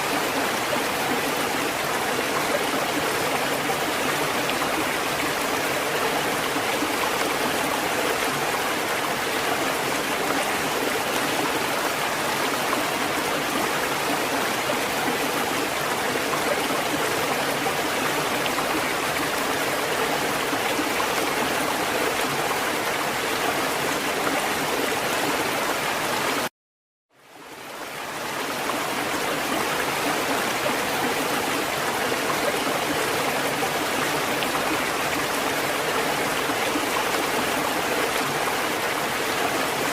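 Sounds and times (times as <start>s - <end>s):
water rushing: 0.0s - 26.5s, 27.3s - 39.9s.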